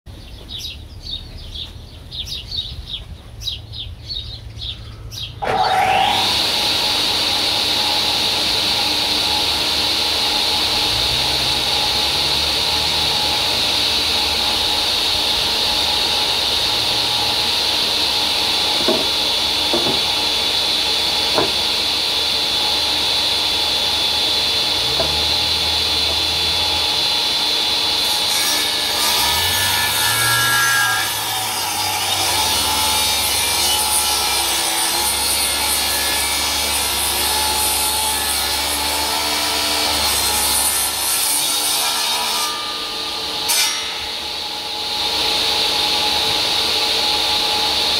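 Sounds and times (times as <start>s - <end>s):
table saw whining: 5.2s - 47.9s
saw blade cutting wood: 5.4s - 47.9s.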